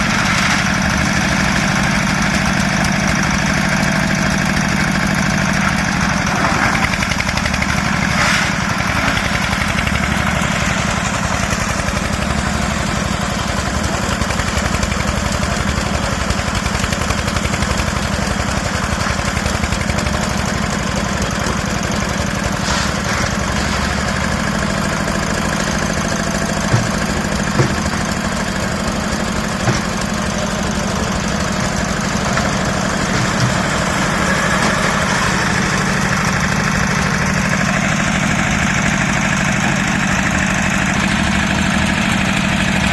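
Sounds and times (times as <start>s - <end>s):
machine engine running: 0.0s - 42.9s.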